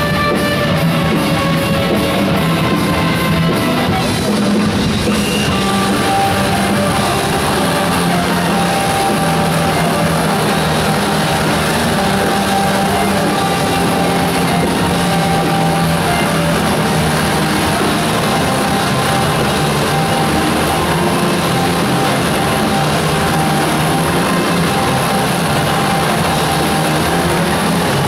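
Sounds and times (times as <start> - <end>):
loud music: 0.0 - 28.0
motorcycle engines running: 0.0 - 28.0.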